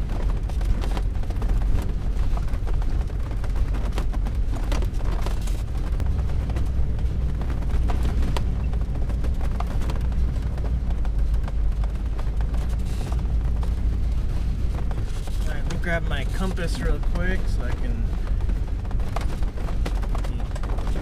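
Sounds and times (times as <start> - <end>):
vehicle low rumble: 0.0 - 21.0.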